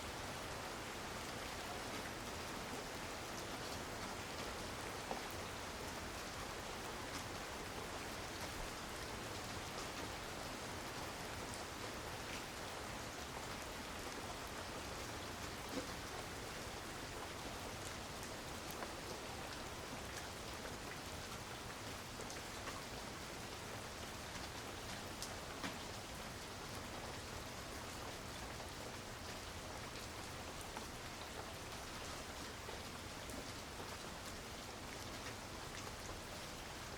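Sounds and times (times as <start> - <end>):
raindrops tapping surfaces: 1.4 - 36.9.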